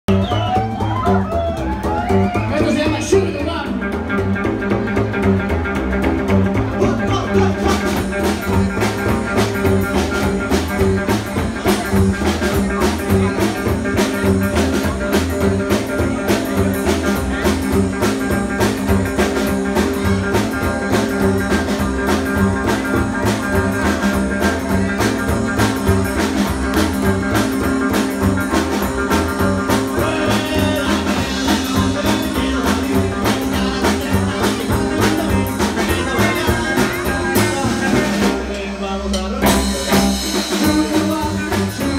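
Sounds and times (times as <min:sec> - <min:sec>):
drum kit: 0:00.0 - 0:41.9
guitar: 0:00.0 - 0:41.9
upright double bass: 0:00.0 - 0:41.9.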